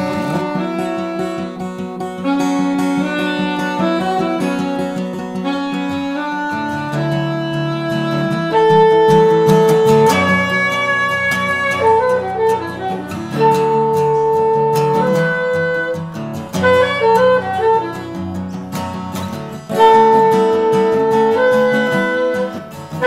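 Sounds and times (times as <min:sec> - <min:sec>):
instrumental melody of held notes: 0:00.0 - 0:23.0
plucked accompaniment: 0:00.0 - 0:23.0.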